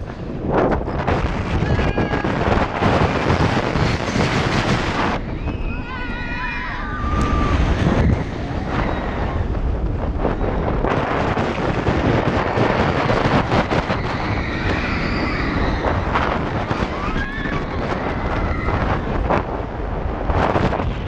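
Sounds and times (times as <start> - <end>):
low rumble: 0.0 - 21.0
wind buffeting microphone: 0.0 - 21.0
riders screaming and whooping: 1.5 - 19.6.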